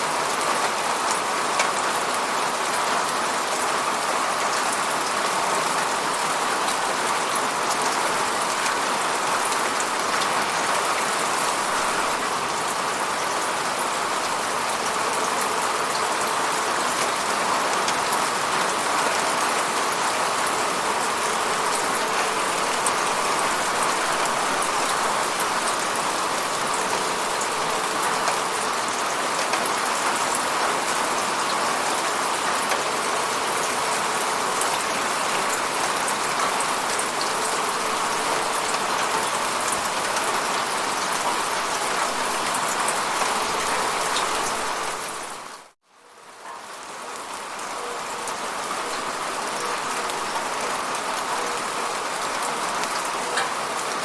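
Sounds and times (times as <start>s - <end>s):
steady falling rain: 0.0s - 54.0s.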